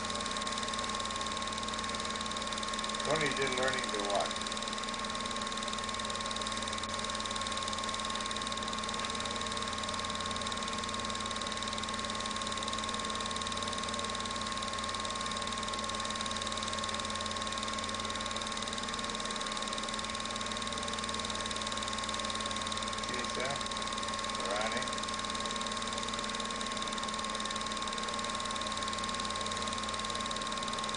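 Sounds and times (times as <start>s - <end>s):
film projector whirring: 0.0s - 30.9s.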